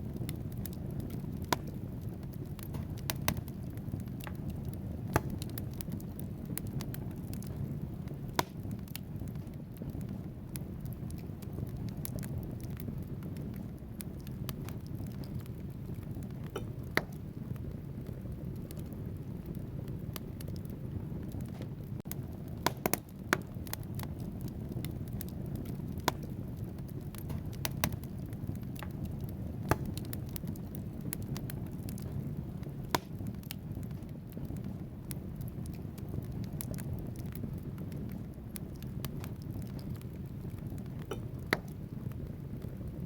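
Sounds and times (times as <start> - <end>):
fire crackling and popping: 0.0 - 43.0
low rush of flame: 0.0 - 43.0.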